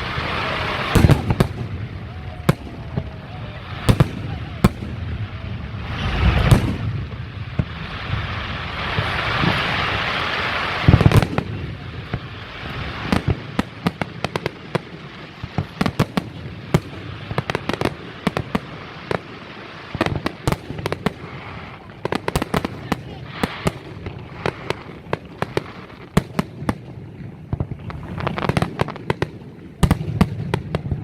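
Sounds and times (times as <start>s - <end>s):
firework booms: 0.0s - 31.0s
firework hiss: 0.0s - 31.0s
firework pops and crackles: 0.0s - 31.0s.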